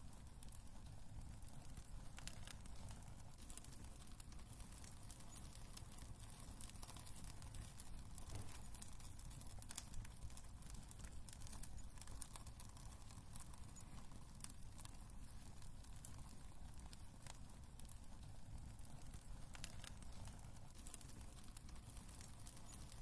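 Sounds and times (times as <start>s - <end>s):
burning logs crackling and popping: 0.0s - 23.0s
low rumble of flames: 0.0s - 23.0s.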